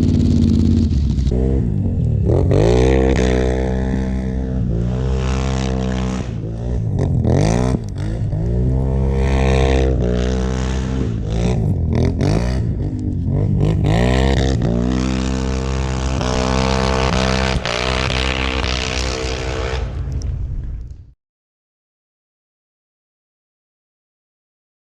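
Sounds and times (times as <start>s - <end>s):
atv engine revving: 0.0s - 20.3s.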